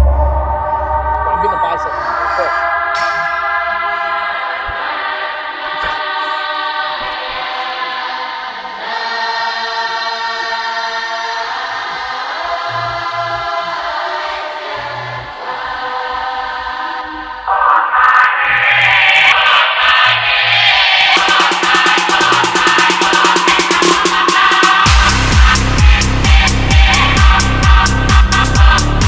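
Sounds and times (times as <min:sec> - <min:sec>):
choir singing held chords: 0:00.0 - 0:29.0.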